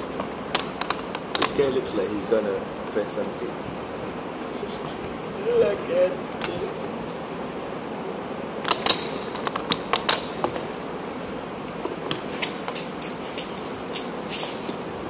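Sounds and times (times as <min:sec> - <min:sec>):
steady room hum: 0:00.0 - 0:15.0.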